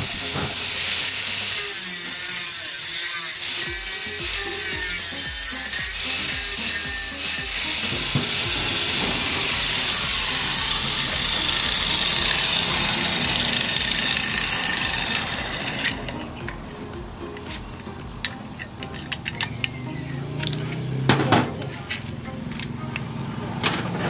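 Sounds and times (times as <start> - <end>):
tool grinding steel: 0.0 - 24.0.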